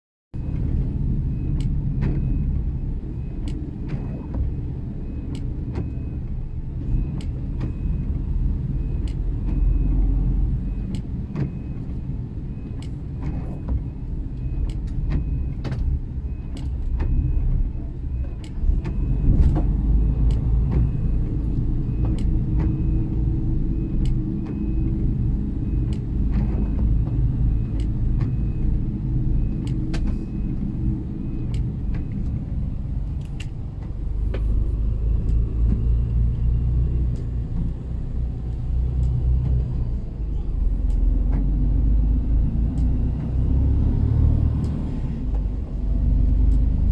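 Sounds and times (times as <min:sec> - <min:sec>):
low engine and road rumble: 0:00.3 - 0:46.9
light ticking: 0:00.4 - 0:43.4, 0:44.4 - 0:46.9.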